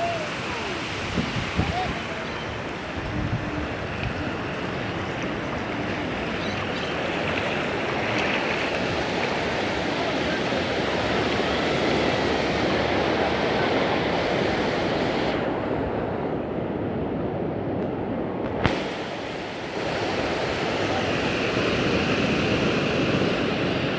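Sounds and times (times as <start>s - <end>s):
ocean waves breaking: 0.0s - 23.9s.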